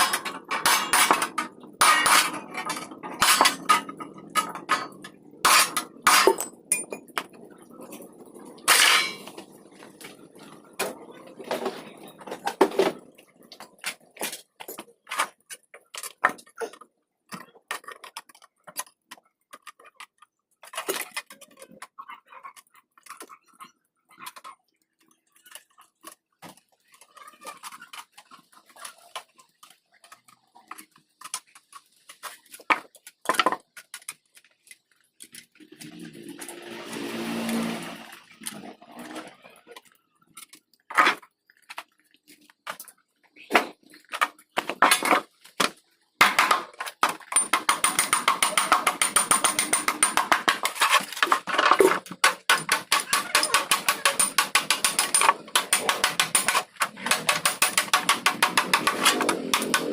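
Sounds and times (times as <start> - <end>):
hand tools clicking and knocking: 0.0 - 59.9.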